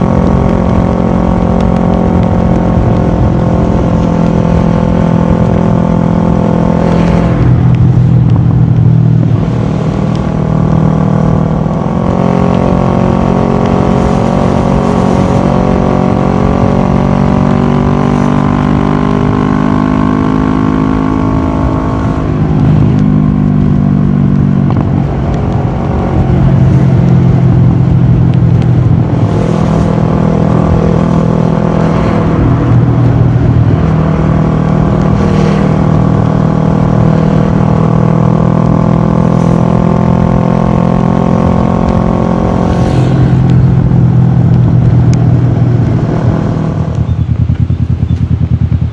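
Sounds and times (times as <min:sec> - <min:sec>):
motorcycle engine while riding: 0:00.0 - 0:48.9.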